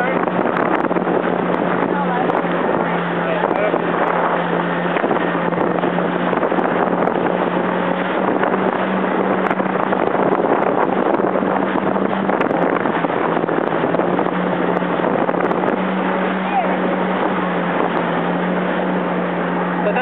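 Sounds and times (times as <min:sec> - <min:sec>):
jet ski engine droning: 0:00.0 - 0:20.0
wind rushing over microphone: 0:00.0 - 0:20.0.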